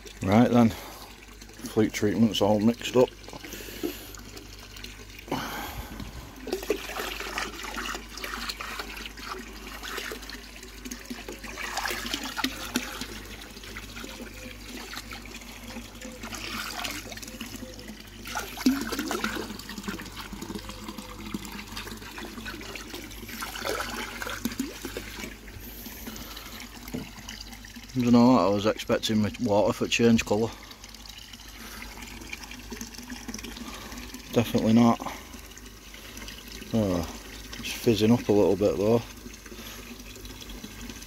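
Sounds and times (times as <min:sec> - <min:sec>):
water pouring into pond: 0:00.0 - 0:41.0.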